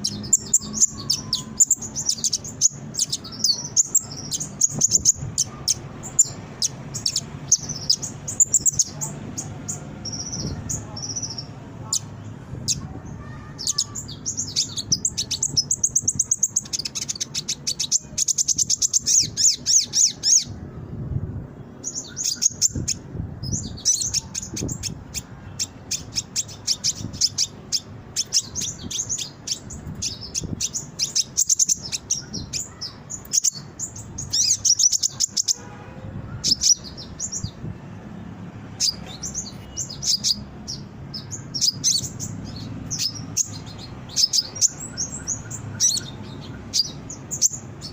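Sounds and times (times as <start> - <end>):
sunbird chirping and trilling: 0.0 - 47.9.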